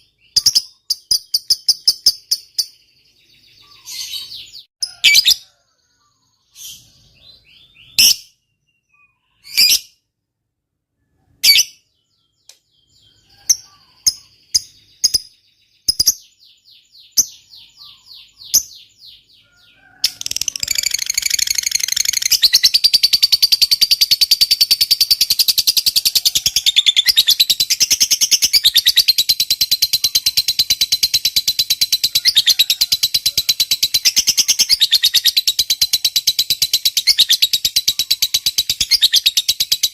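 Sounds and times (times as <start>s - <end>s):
lovebird chirping and chattering: 0.0s - 10.0s, 11.4s - 39.9s.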